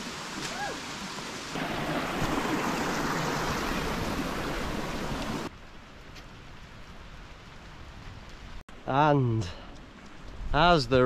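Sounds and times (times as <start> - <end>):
water running over rocks: 0.0 - 9.2.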